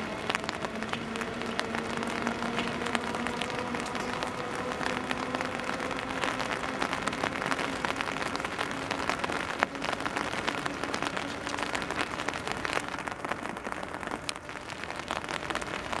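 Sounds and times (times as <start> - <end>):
rain pattering on platform: 0.0 - 16.0.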